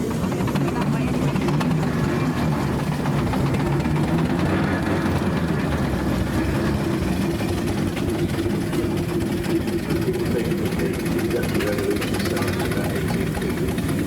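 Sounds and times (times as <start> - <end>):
engine running with low hum: 0.0 - 14.0.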